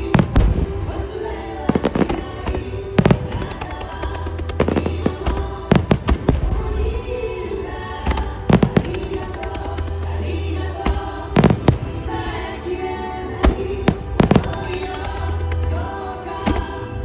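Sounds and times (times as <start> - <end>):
fireworks bursting: 0.0 - 15.6
music playing: 0.0 - 17.0.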